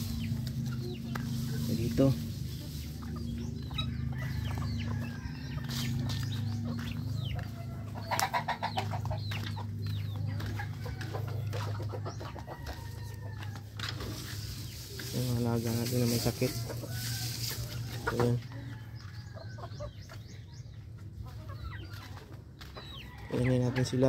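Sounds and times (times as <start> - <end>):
steady low hum: 0.0 - 21.4
chicken cackle: 0.0 - 24.0
chickens clucking: 0.0 - 24.0.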